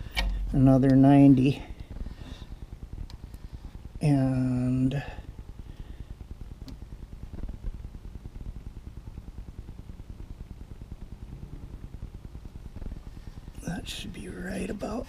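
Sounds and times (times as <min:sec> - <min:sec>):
fast-pulsing mechanical hum: 0:01.5 - 0:15.0.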